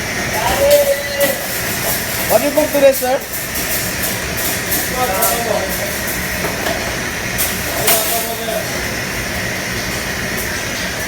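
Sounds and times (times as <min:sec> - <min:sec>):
kitchen machinery hum and hiss: 0:00.0 - 0:11.0.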